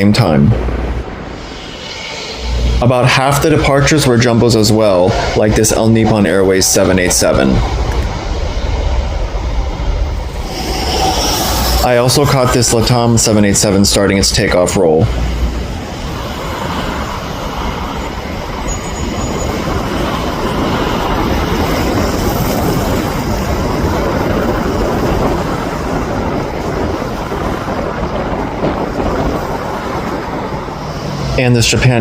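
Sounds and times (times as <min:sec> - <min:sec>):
jet engines roaring at takeoff: 0:00.0 - 0:32.0.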